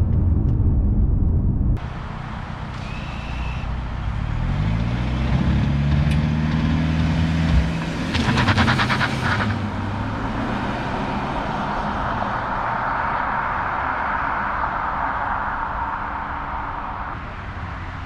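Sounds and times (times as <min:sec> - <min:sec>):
exhaust crackling: 0:00.0 - 0:18.0
tyre and road noise: 0:00.0 - 0:18.0
car accelerating past: 0:01.8 - 0:18.0.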